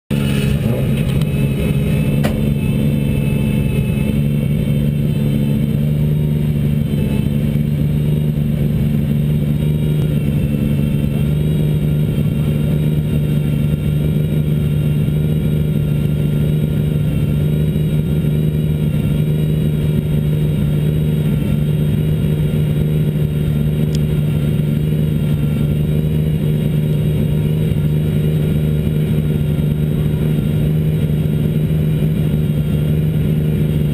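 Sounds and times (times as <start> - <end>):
race car engine idling: 0.1 - 33.9.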